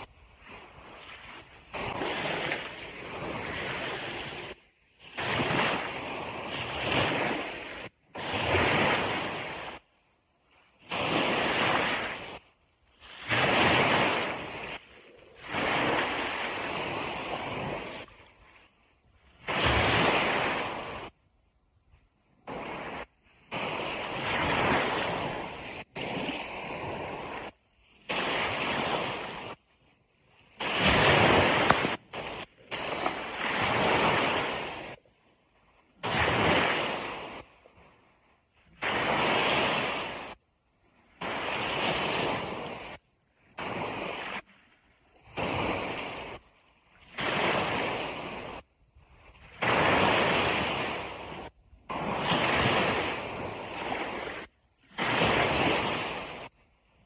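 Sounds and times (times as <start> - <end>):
ocean surf washing on beach: 0.0 - 57.0.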